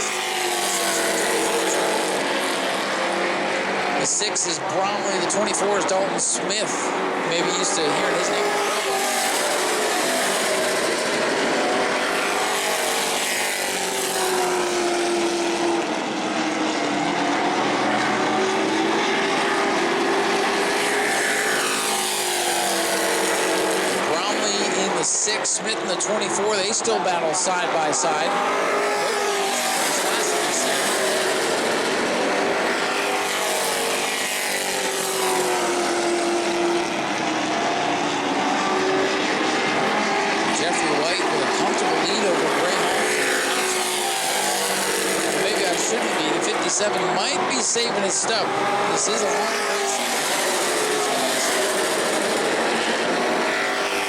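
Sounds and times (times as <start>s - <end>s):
race truck engines droning: 0.0s - 54.0s.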